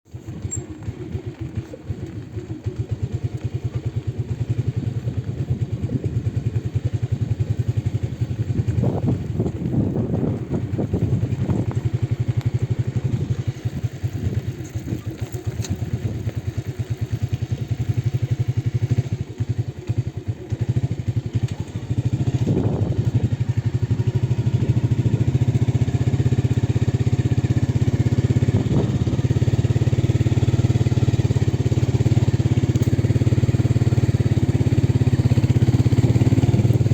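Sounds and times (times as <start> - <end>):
motorcycle engine running: 0.1 - 36.9.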